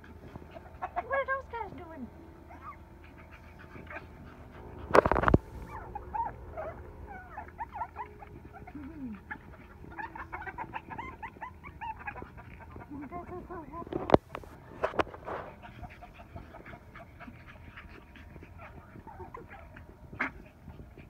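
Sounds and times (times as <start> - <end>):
puppies yipping and whimpering: 0.0 - 21.0.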